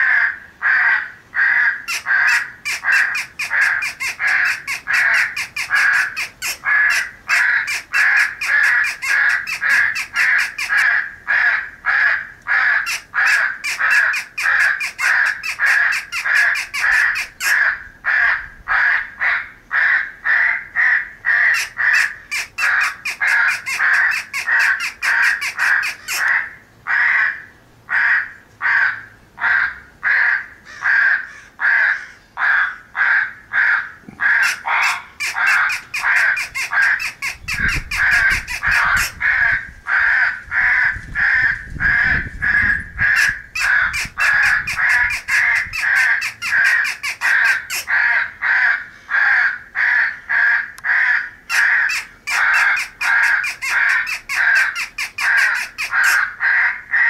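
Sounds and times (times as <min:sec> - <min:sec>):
crows cawing: 0:00.0 - 0:57.0.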